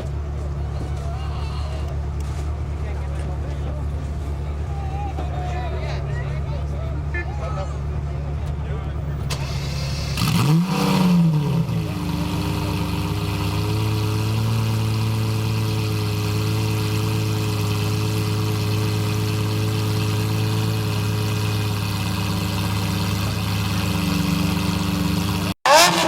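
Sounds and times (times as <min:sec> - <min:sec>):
sports car engine idling: 0:00.0 - 0:26.0.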